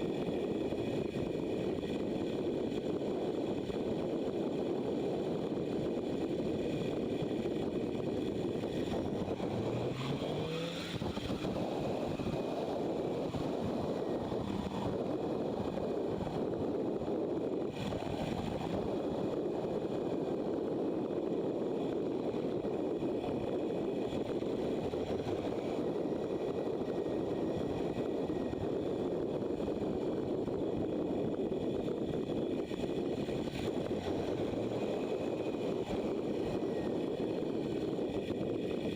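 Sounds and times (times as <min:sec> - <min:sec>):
motorcycle engine running: 0:00.0 - 0:38.9
wind rush over microphone: 0:00.0 - 0:38.9.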